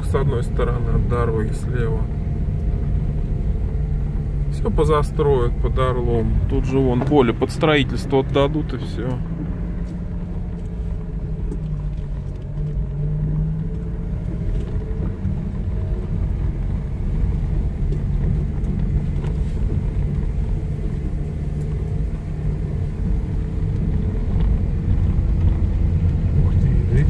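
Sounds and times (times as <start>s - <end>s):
car engine hum: 0.0s - 27.0s
tyre and road rumble: 0.0s - 27.0s.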